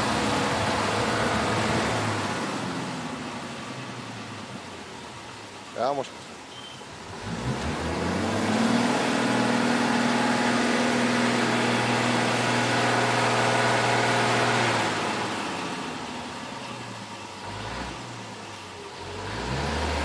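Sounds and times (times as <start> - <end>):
truck diesel engine revving: 0.0 - 4.8, 6.9 - 20.0.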